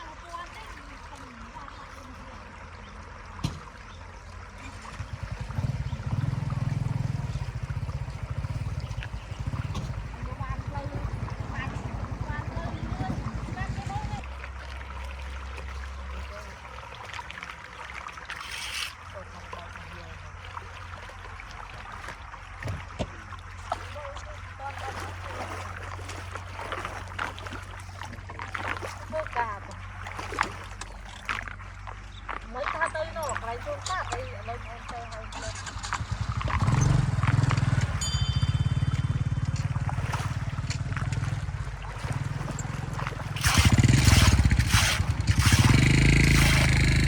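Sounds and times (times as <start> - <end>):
low gurgling rumble: 0.0 - 47.0
water trickling and running: 0.0 - 47.0.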